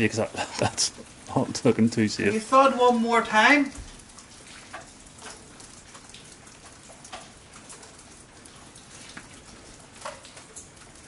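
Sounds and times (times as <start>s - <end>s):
rain pattering: 0.0s - 11.0s
water drips: 0.0s - 11.0s.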